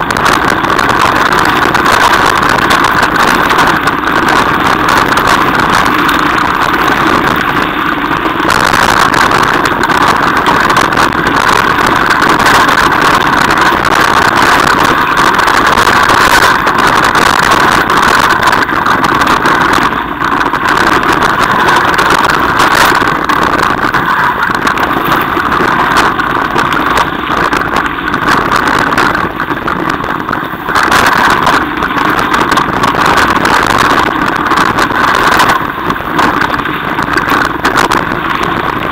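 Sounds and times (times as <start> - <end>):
bike tyres rattling on gravel: 0.0 - 38.9.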